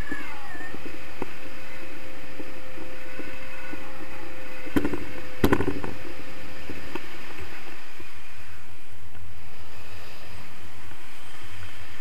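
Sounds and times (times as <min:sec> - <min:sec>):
faint steady tone: 0:00.0 - 0:12.0
wind buffeting microphone: 0:00.0 - 0:12.0.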